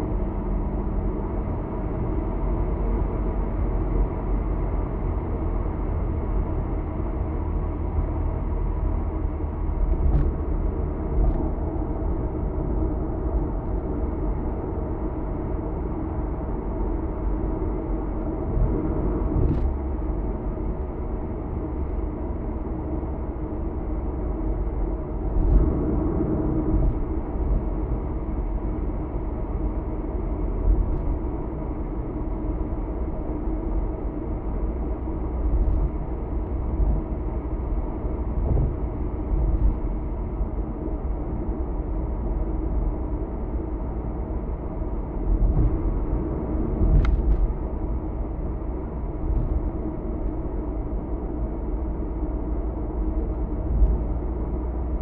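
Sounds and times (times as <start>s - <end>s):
car cabin road drone: 0.0s - 55.0s.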